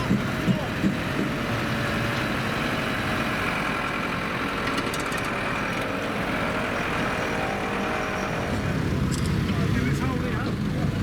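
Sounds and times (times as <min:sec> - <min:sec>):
racing car engines running: 0:00.0 - 0:11.0.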